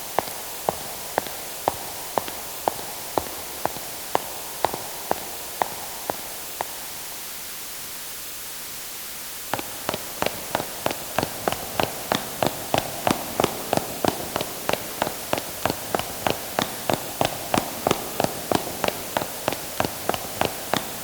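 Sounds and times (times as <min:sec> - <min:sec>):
footsteps: 0:00.0 - 0:06.8, 0:09.5 - 0:21.0
steady hiss: 0:00.0 - 0:21.0.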